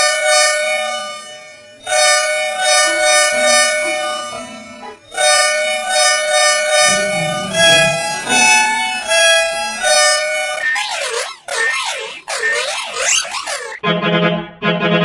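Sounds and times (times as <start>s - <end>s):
pulsing horn blasts: 0.0s - 14.0s
electronically altered bus horn: 0.0s - 15.0s.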